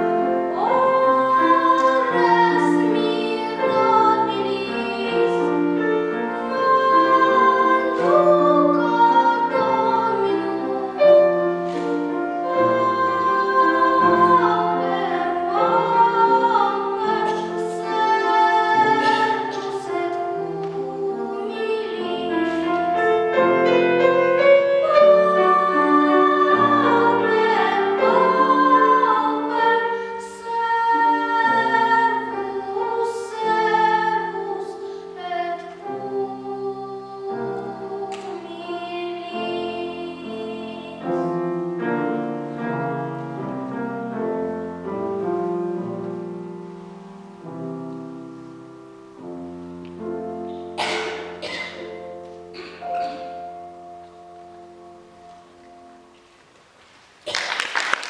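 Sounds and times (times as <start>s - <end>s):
child singing classical style: 0.0s - 56.4s
piano accompaniment: 0.0s - 58.0s.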